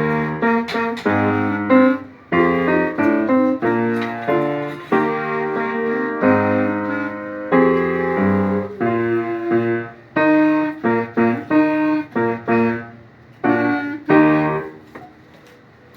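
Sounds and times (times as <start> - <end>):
held music chords: 0.0 - 14.9.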